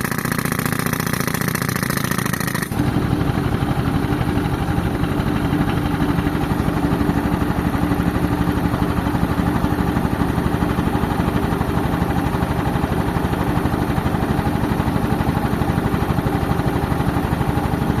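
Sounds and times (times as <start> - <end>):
air compressor pulsing: 0.0 - 18.0
tractor diesel engine running: 0.0 - 18.0.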